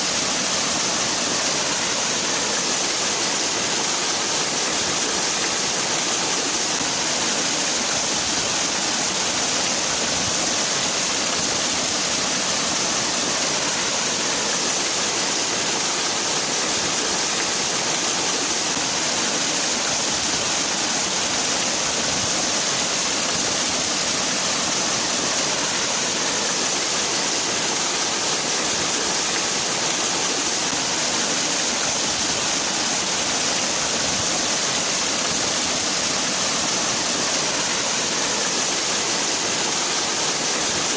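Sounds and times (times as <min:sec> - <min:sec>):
waterfall splashing: 0:00.0 - 0:40.9.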